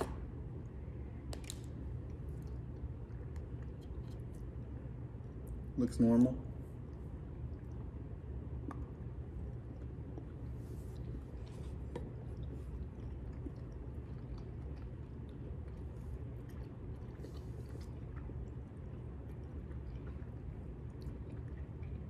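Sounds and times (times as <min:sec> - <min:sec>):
low room hum: 0:00.0 - 0:22.0
chewing chocolate: 0:00.6 - 0:05.7, 0:06.8 - 0:22.0.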